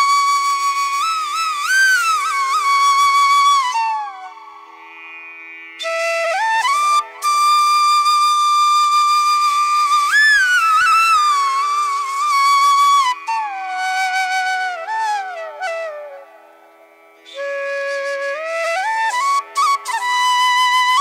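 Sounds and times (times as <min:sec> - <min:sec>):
flute melody: 0:00.0 - 0:04.6, 0:05.8 - 0:16.5, 0:17.3 - 0:21.0.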